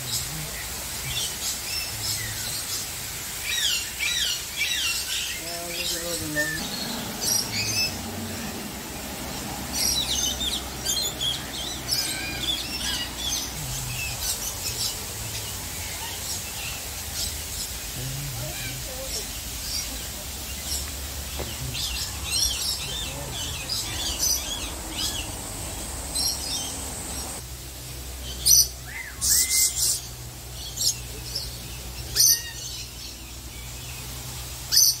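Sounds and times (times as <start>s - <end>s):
birds chirping and squawking: 0.0s - 27.4s, 28.2s - 35.0s.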